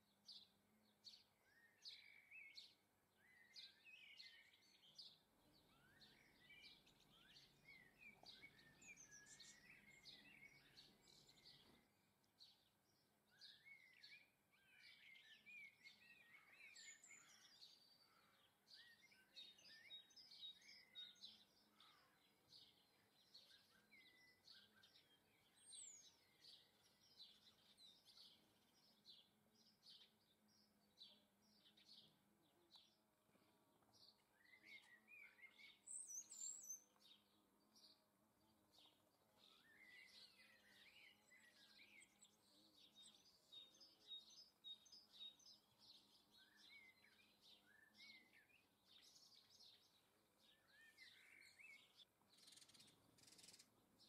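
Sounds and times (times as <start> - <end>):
songbirds chirping and twittering: 0.0 - 54.0.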